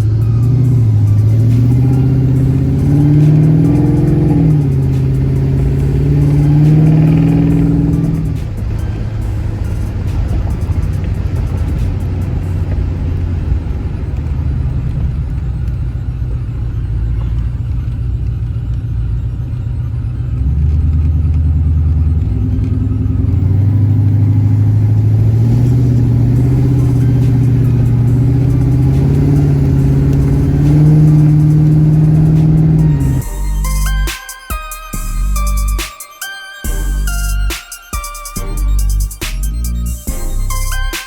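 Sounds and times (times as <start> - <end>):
vee eight engine exhaust: 0.0 - 36.0, 36.6 - 41.0.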